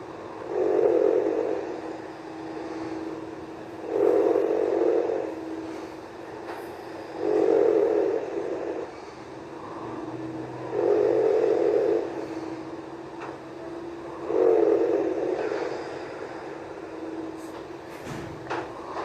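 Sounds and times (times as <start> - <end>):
person snoring: 0.0 - 17.6
steady hum: 0.0 - 19.0.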